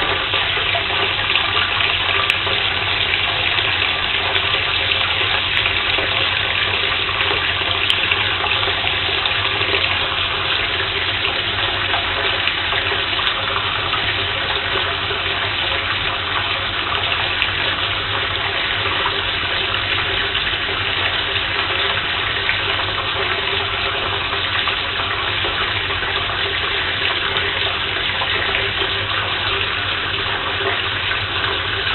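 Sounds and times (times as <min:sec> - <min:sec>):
tap water running into bathtub: 0:00.0 - 0:31.9.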